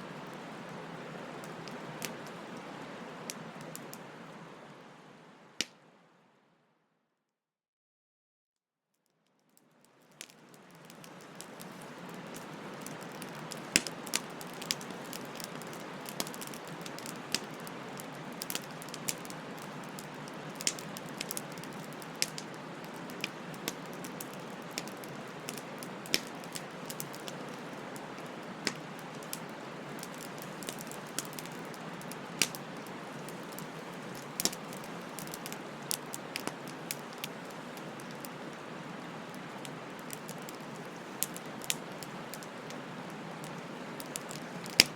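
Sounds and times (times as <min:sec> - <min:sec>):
wood fire crackling: 0:00.0 - 0:05.8, 0:09.4 - 0:44.9.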